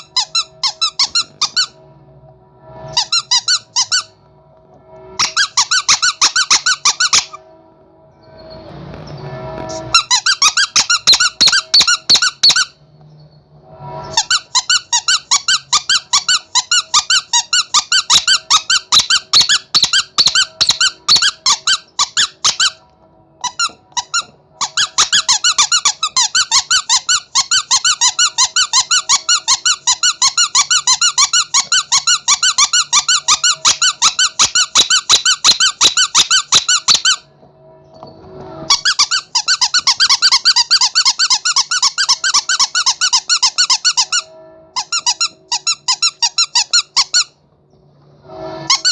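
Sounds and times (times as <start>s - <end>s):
squeaky toy squeaking: 0.0s - 1.8s, 2.8s - 4.2s, 5.1s - 7.4s, 9.7s - 12.8s, 14.0s - 22.8s, 23.4s - 37.3s, 38.6s - 47.4s, 48.6s - 48.9s.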